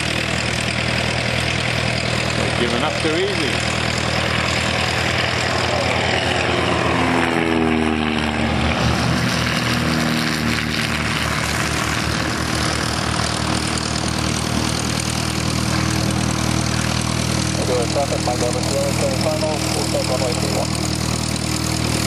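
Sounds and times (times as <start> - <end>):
propeller plane passing by: 0.0 - 22.0.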